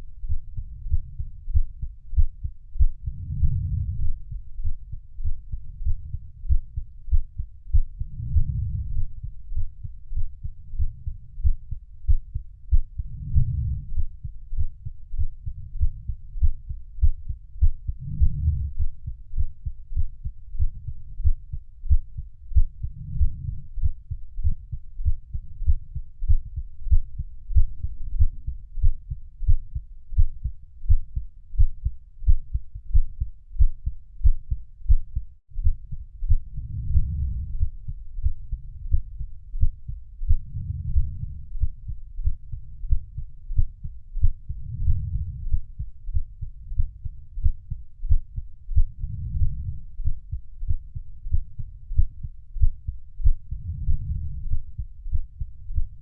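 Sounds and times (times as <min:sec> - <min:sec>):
heartbeat thumps: 0:00.0 - 0:56.0
soft low swell: 0:00.1 - 0:27.6, 0:35.6 - 0:56.0.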